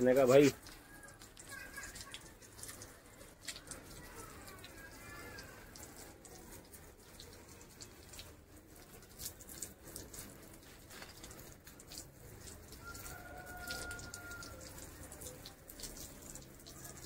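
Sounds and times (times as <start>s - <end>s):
hose water splashing: 0.0s - 17.0s.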